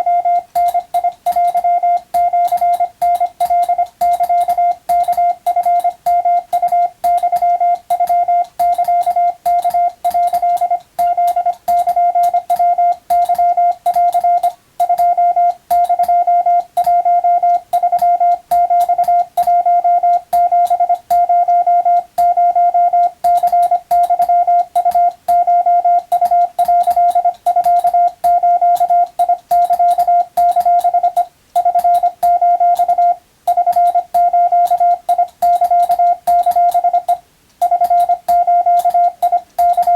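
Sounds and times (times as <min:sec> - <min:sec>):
keying clicks: 0:00.0 - 0:39.9
morse code tone: 0:00.0 - 0:39.9.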